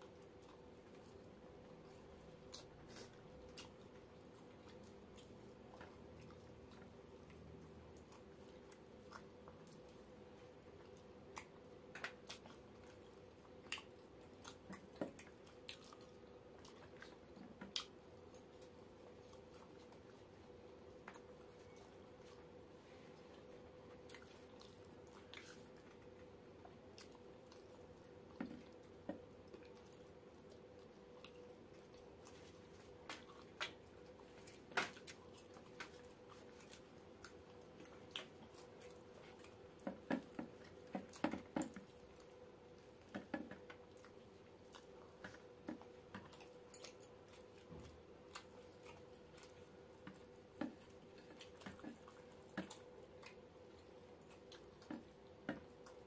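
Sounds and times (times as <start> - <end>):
chewing and lip smacks: 0.0 - 56.0
faint steady hum: 0.0 - 56.0
fingers squishing food: 0.0 - 56.0.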